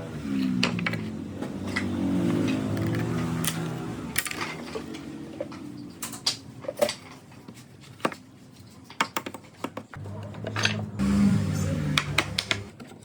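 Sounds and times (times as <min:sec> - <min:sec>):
wooden parts and tools knocking: 0:00.4 - 0:11.0, 0:11.8 - 0:13.0.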